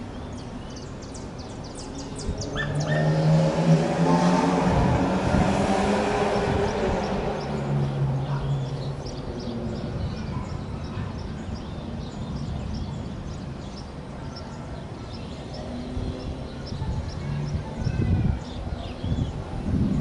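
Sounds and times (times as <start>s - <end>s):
small birds chirping: 0.0s - 3.2s, 6.5s - 20.0s.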